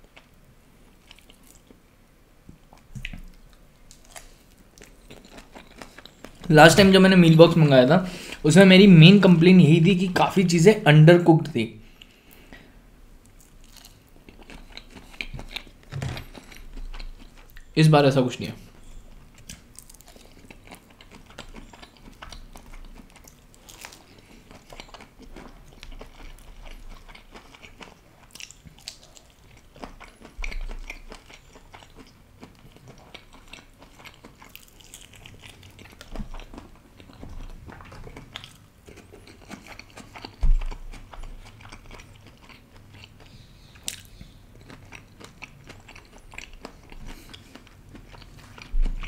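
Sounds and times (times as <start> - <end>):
chewing and biting crunches: 1.0 - 1.8, 2.7 - 6.9, 13.2 - 17.8, 18.8 - 49.0.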